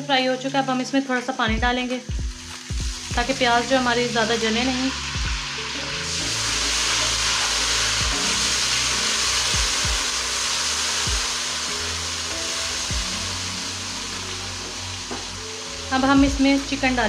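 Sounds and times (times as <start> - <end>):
hot oil sizzling and hissing: 0.3 - 17.0.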